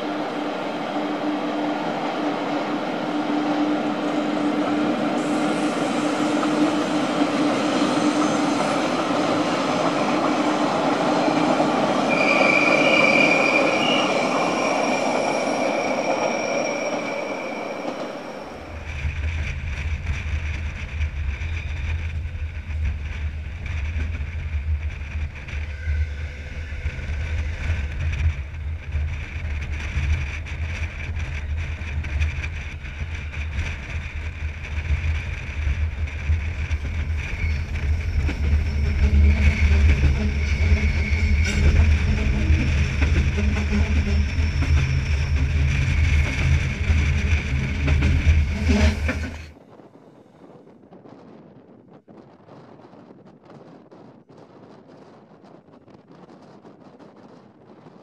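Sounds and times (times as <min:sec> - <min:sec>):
train rumbling: 0:00.0 - 0:58.0
train wheel squeal: 0:03.7 - 0:50.6.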